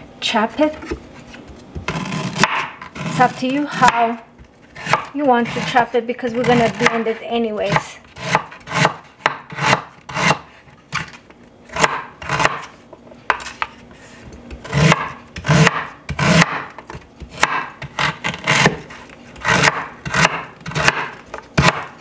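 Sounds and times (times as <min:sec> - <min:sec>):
knife slicing ginger: 0:01.8 - 0:11.1, 0:11.7 - 0:12.7, 0:14.5 - 0:22.0.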